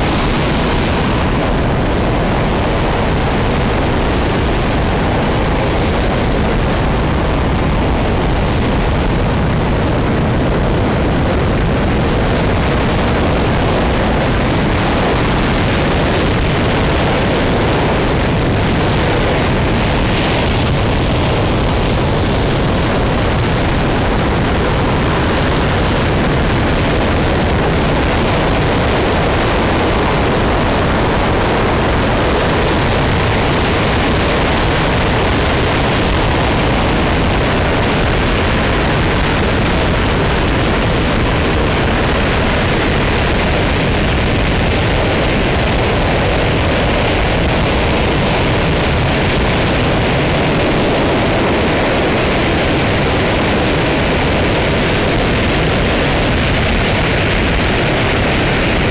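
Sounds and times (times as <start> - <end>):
rocket engine roaring: 0.0 - 58.9.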